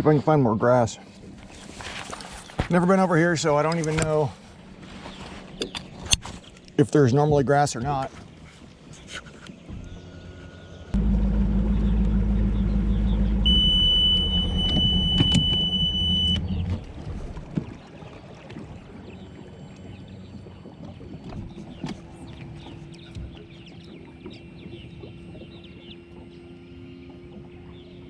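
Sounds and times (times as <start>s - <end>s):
outboard motor rumbling: 0.0s - 6.6s, 7.5s - 28.0s.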